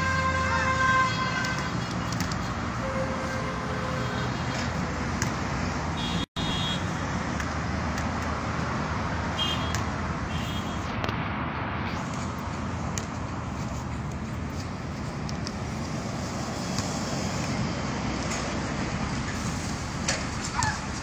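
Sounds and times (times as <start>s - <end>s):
distant traffic hiss: 0.0s - 21.0s.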